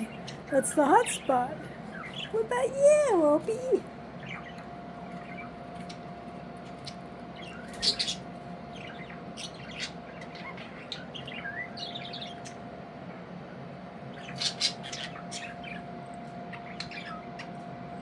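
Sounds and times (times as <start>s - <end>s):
budgerigars chirping: 0.0s - 6.0s, 6.8s - 12.6s, 14.1s - 15.9s, 16.5s - 17.6s.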